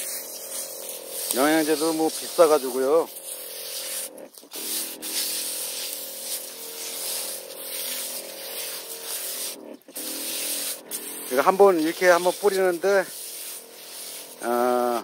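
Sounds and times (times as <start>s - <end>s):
sprayer hum: 0.0s - 15.0s
sprayer wand hissing: 0.0s - 15.0s.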